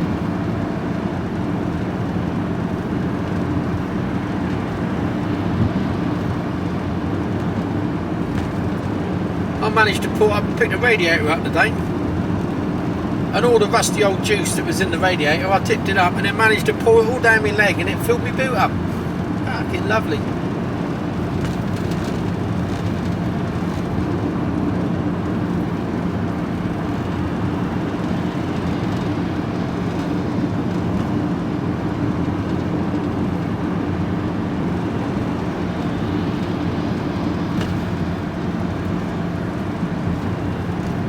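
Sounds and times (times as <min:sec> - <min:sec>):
constant low hum: 0:00.0 - 0:41.0
road noise: 0:00.0 - 0:41.0
vehicle engine drone: 0:00.0 - 0:41.0.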